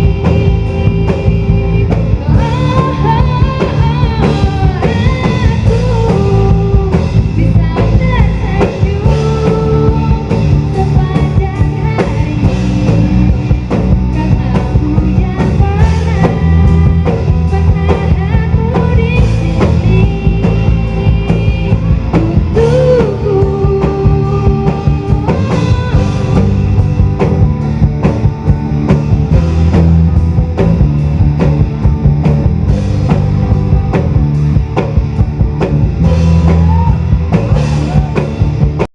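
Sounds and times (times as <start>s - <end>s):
loud rock music: 0.0s - 38.9s.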